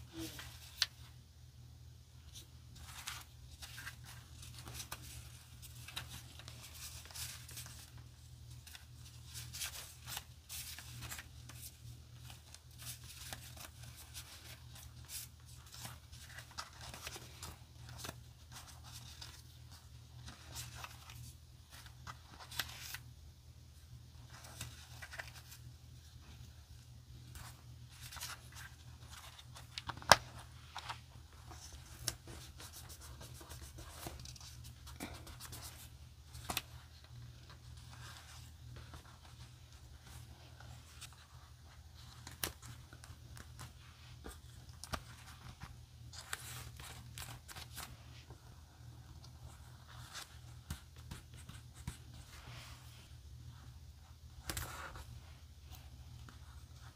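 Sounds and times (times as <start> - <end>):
paper rustling and crinkling: 2.2 - 23.1, 24.2 - 53.6.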